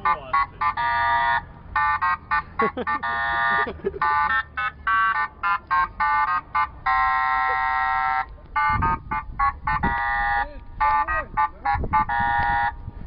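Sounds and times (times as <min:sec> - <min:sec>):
car alarm electronic beeps: 0:00.1 - 0:12.8.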